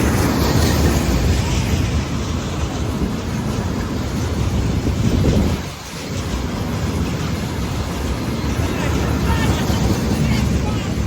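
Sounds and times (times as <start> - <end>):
freight train wagons rumbling: 0.0 - 11.0.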